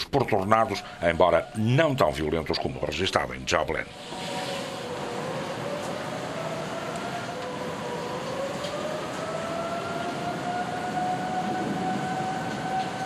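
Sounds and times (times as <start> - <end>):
steady background hiss: 0.0 - 13.0
siren wailing: 0.3 - 13.0.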